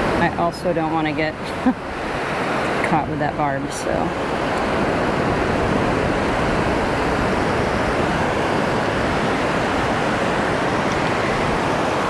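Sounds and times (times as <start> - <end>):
surf breaking on shore: 0.0 - 12.0
wind on microphone: 0.0 - 12.0.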